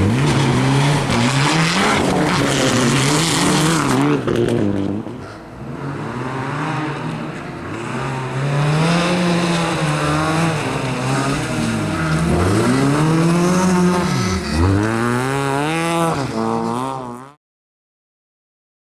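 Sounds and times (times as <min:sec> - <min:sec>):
rally car engine revving: 0:00.0 - 0:17.4.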